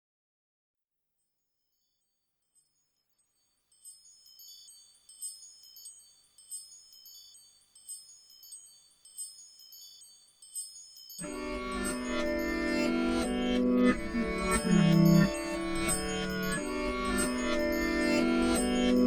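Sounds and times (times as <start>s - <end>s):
bell-like chimes in pop song: 3.7s - 19.0s.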